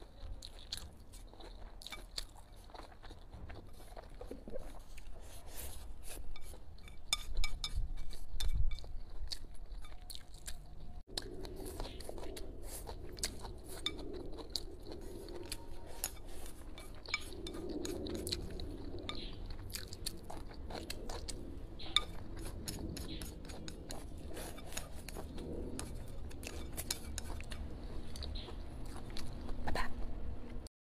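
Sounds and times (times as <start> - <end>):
person chewing leafy greens: 0.0 - 30.7.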